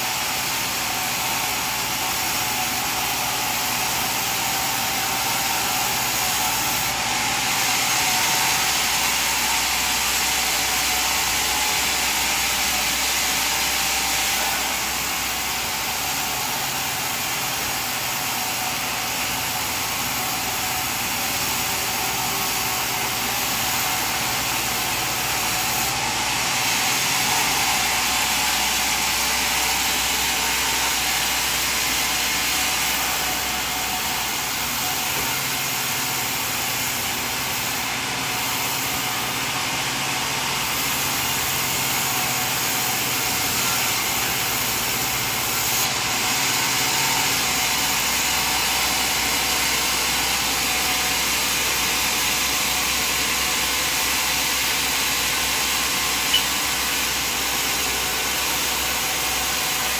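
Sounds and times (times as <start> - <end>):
sawmill saw cutting wood: 0.0 - 59.9.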